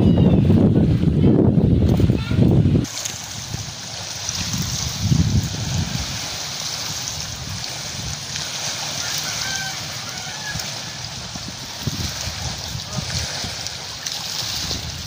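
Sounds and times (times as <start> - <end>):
water washing at shore: 0.0 - 15.0
wind gusting on microphone: 0.0 - 15.0.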